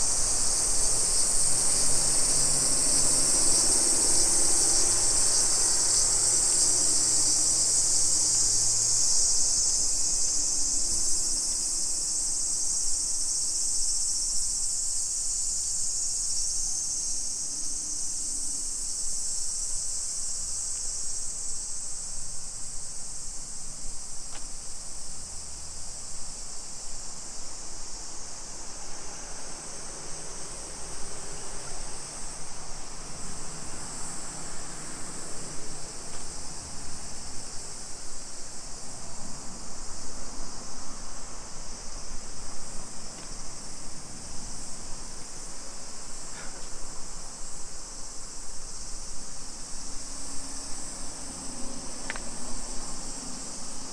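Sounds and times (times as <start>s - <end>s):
faint street ambience: 0.0s - 53.9s.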